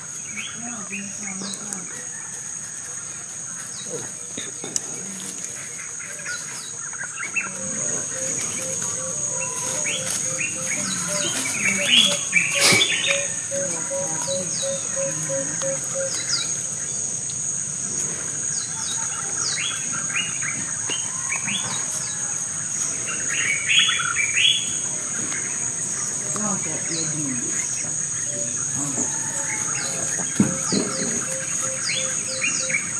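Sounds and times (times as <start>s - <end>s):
insect drone: 0.0s - 32.9s
small birds chirping: 0.0s - 32.9s.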